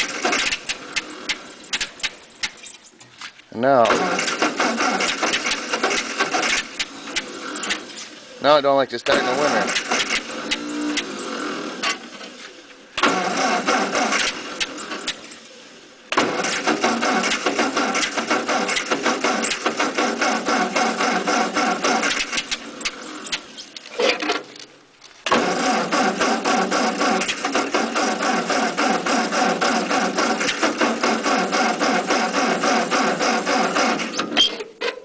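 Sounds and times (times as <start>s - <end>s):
engine starter cranking: 0.0s - 35.0s.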